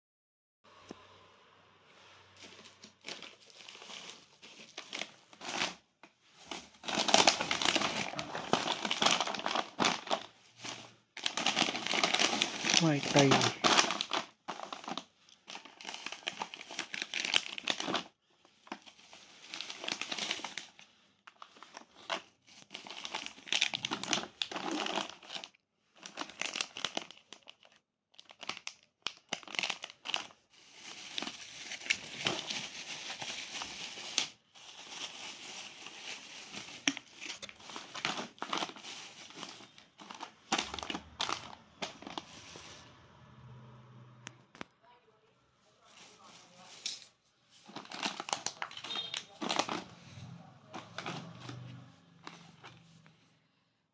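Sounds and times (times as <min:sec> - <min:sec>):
plastic snack packets crinkling: 0:02.4 - 0:42.9, 0:45.8 - 0:52.9.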